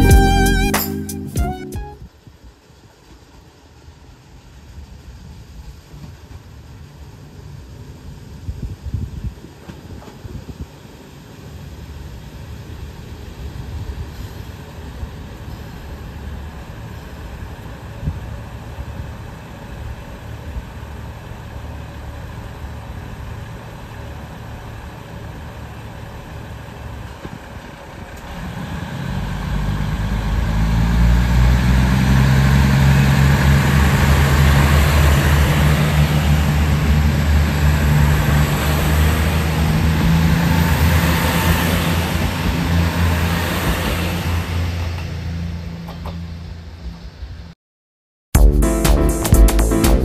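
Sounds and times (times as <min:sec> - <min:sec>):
diesel train engines: 0:02.6 - 0:47.5.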